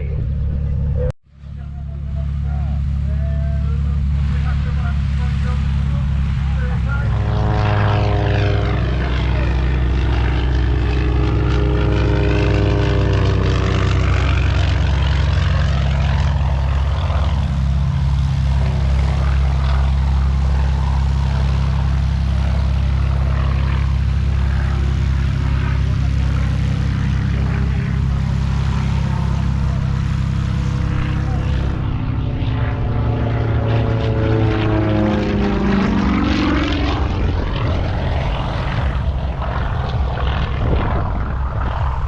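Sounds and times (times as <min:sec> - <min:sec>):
propeller airplane flying past: 0:00.0 - 0:42.0.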